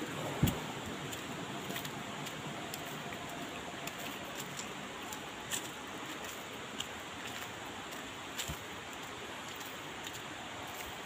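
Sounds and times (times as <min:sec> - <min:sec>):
footsteps on dry leaves: 0:00.0 - 0:11.0
river water rushing: 0:00.0 - 0:11.0.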